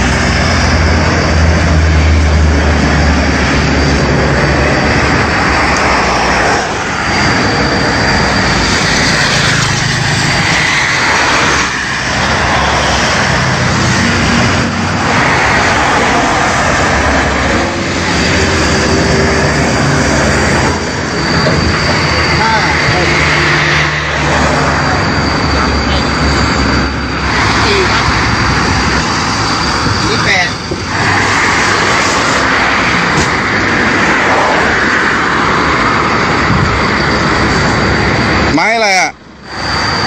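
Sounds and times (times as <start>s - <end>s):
engine running: 0.0s - 40.0s
road traffic: 0.0s - 40.0s.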